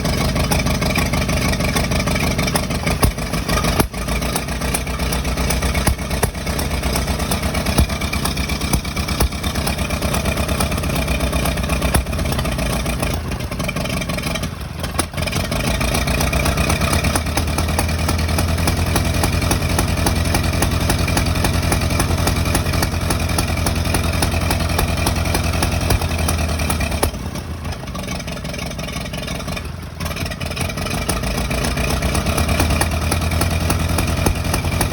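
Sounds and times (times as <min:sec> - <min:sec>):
engine running unevenly: 0:00.0 - 0:34.9.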